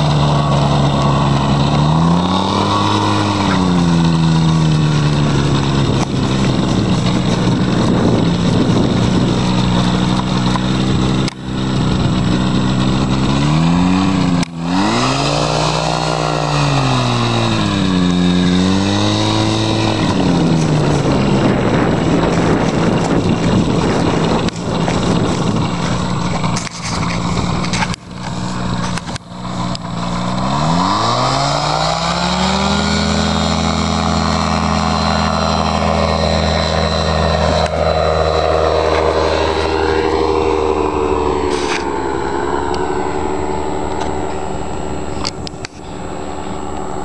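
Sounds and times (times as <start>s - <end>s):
propeller engine droning: 0.0s - 47.0s.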